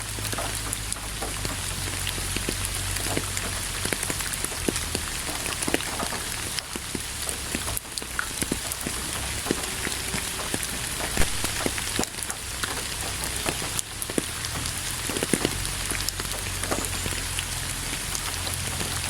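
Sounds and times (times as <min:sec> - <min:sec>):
raindrops tapping close by: 0:00.0 - 0:19.0
steady rain hiss: 0:00.0 - 0:19.0.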